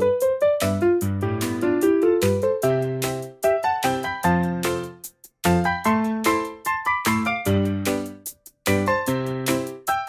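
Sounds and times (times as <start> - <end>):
bouncy piano music: 0.0 - 10.0.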